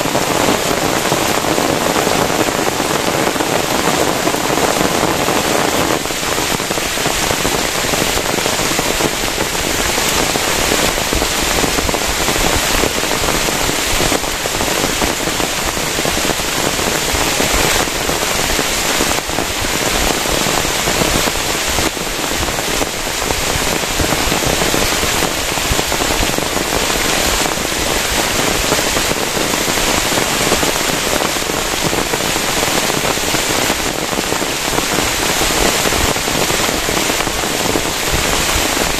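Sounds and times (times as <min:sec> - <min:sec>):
heavy rain on plastic tarp: 0:00.0 - 0:38.9.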